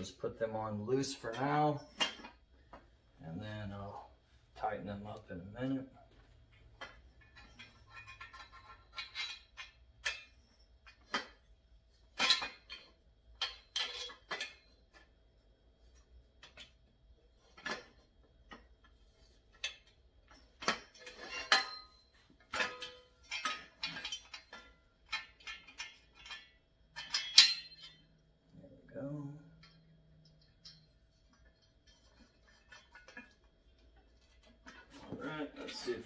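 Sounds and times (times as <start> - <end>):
metal bolts and nuts clinking: 0.0 - 4.0, 4.6 - 36.0.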